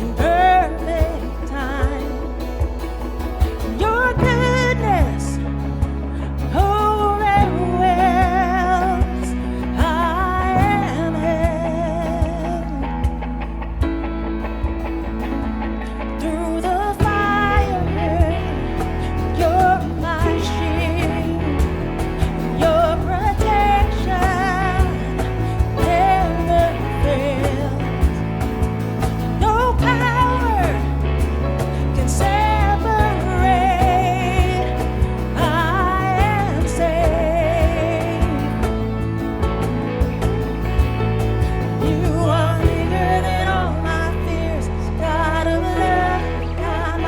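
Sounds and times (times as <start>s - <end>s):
person singing: 0.0s - 14.8s, 15.4s - 47.0s
band with bass and drums: 0.0s - 46.8s.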